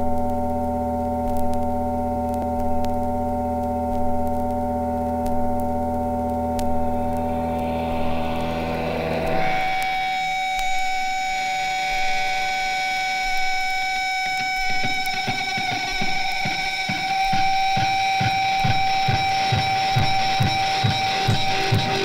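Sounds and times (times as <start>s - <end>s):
droning chord from record: 0.0s - 22.0s
record surface clicks: 0.0s - 22.0s.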